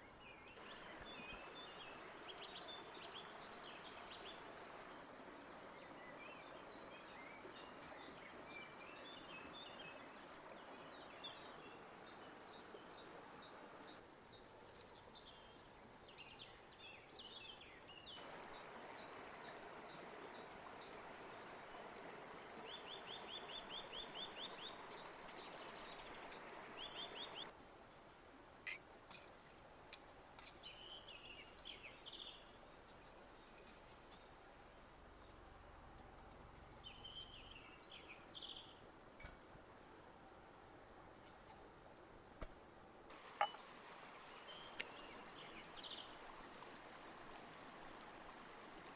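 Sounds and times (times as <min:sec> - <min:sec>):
soft steady hiss: 0:00.0 - 0:48.9.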